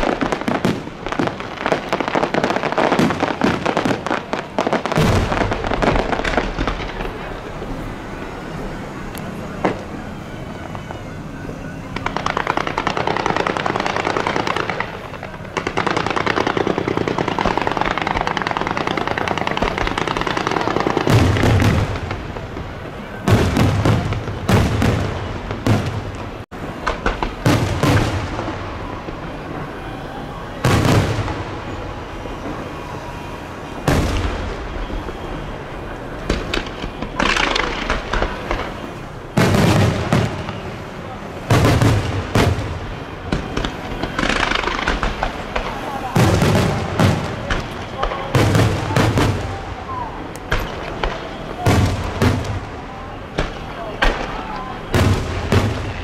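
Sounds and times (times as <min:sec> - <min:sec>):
fireworks booming: 0:00.0 - 0:56.0
fireworks crackling: 0:00.0 - 0:56.0.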